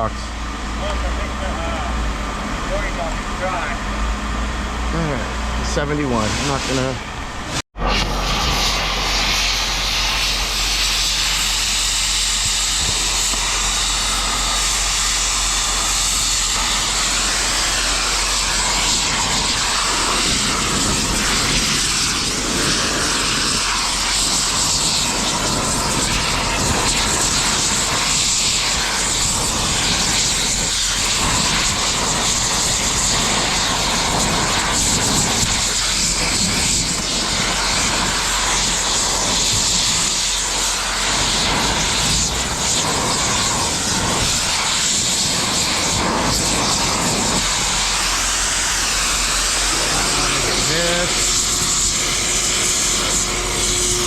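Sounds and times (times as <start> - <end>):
low machinery hum: 0.0 - 54.0
machinery rushing din: 0.0 - 54.0.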